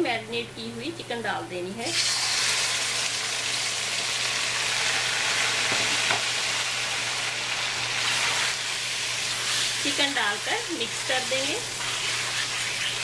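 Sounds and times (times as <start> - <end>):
chicken sizzling in hot oil: 1.9 - 13.0.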